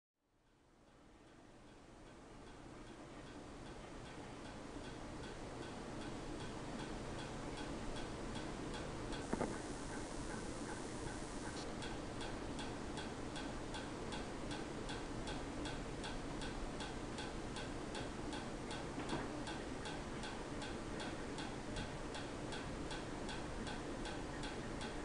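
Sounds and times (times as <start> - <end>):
ceiling fan humming: 0.2 - 25.0
ceiling fan ticking: 0.3 - 25.0.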